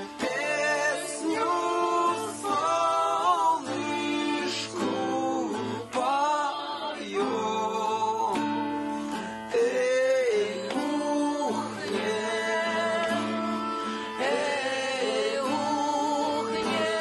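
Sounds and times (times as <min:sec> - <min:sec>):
acoustic guitar: 0:00.0 - 0:17.0
man singing long held notes: 0:00.0 - 0:17.0.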